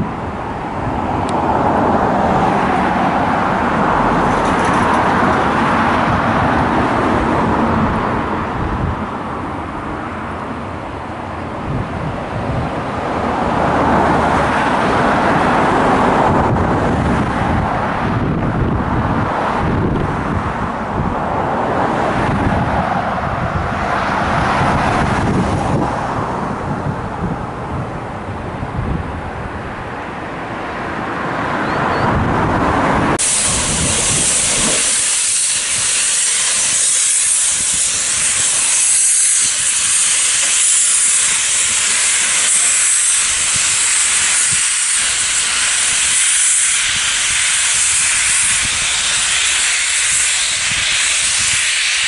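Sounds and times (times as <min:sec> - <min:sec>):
distant train passing: 0:00.0 - 0:52.0
wind on microphone: 0:00.0 - 0:52.0.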